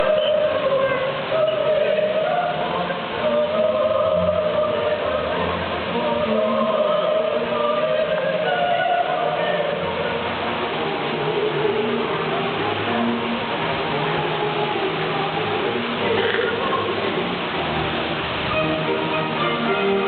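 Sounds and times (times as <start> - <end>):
choral music: 0.0 - 20.0
falling water rushing: 0.0 - 20.0.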